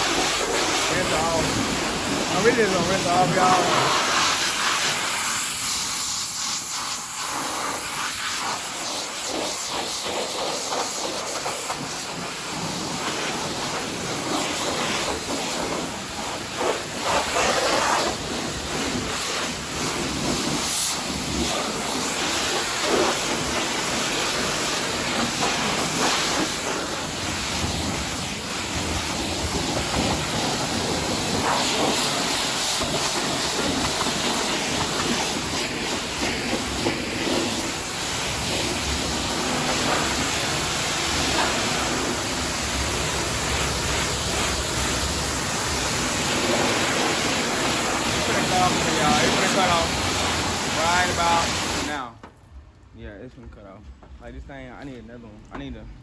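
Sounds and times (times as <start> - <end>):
pressure washer spraying car: 0.0 - 52.1.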